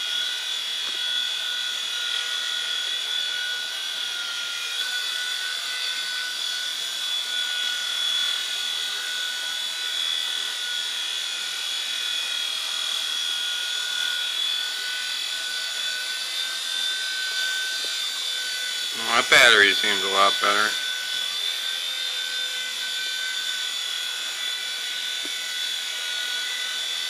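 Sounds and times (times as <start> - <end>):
toy helicopter motor whining: 0.0 - 27.0.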